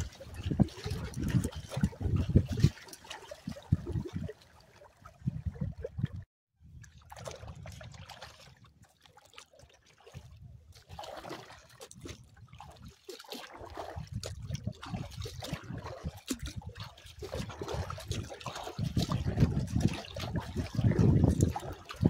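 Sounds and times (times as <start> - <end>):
water splashing on kayak hull: 0.0 - 22.0.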